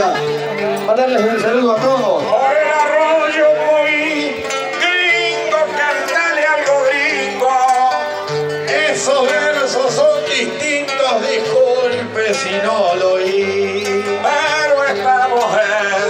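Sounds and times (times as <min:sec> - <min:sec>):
acoustic guitar music: 0:00.0 - 0:16.0
man singing: 0:00.0 - 0:16.0.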